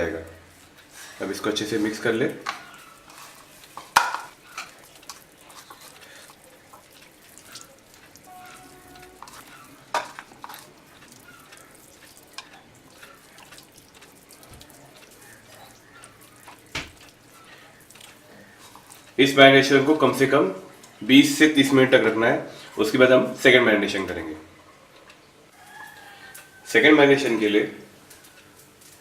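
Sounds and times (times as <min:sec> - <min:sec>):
wet squishy mixing: 0:00.0 - 0:23.5.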